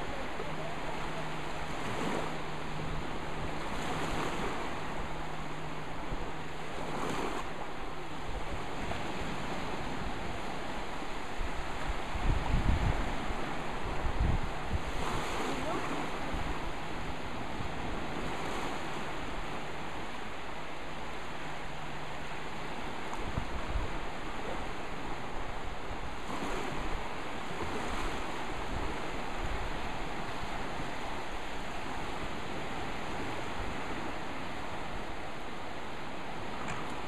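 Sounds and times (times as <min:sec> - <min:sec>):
small waves washing ashore: 0:00.0 - 0:37.0
wind on microphone: 0:00.0 - 0:37.0.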